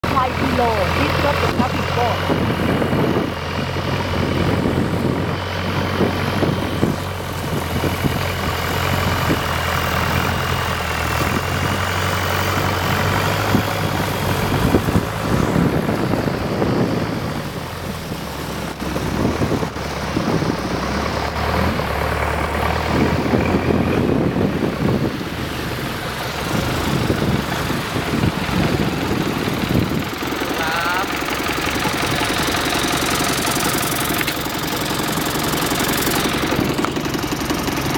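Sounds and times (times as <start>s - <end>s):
boat engine running: 0.0s - 37.9s
constant rushing noise: 0.0s - 37.9s.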